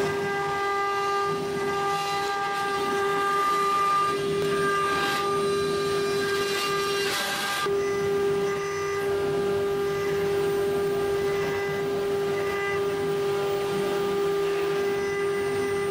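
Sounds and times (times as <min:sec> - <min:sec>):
metal cutting noise: 0:00.0 - 0:15.9
router spindle high whine: 0:00.0 - 0:15.9.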